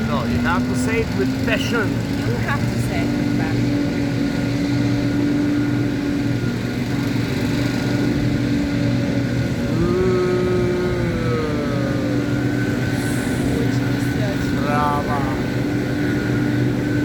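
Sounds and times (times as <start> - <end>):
leaf blower running: 0.0 - 17.0
second engine tone gliding downward: 0.0 - 17.0.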